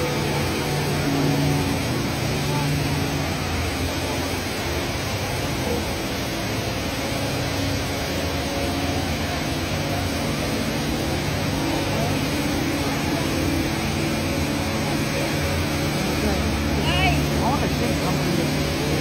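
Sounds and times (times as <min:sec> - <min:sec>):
indoor waterfall rushing: 0:00.0 - 0:19.0.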